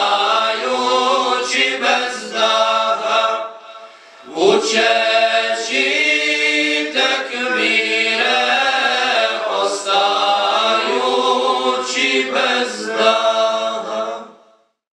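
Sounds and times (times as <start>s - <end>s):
men singing a cappella hymn: 0.0s - 14.5s.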